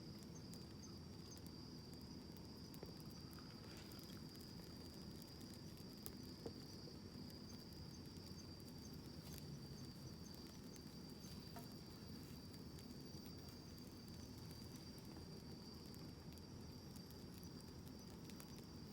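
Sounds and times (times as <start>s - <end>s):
campfire crackling and popping: 0.0s - 18.9s
crickets trilling: 0.0s - 18.9s.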